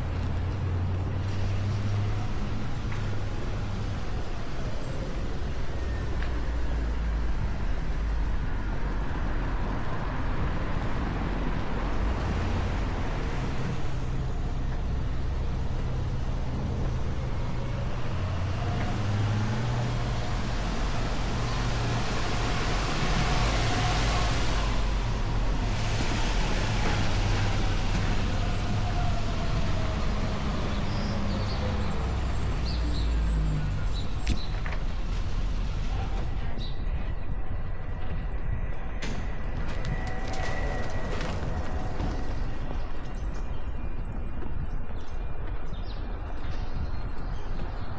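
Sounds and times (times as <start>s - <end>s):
traffic rumble: 0.0s - 47.9s.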